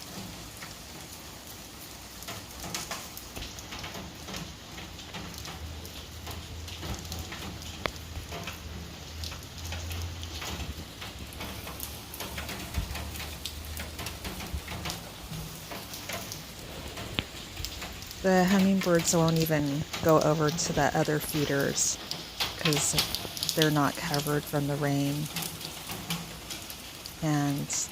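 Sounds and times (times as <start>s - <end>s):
light rain falling: 0.0s - 27.9s.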